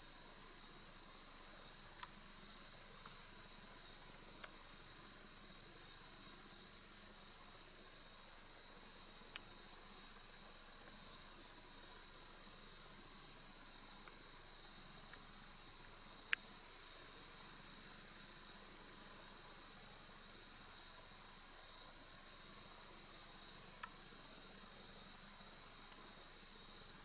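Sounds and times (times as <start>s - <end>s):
crickets droning: 0.0s - 27.0s.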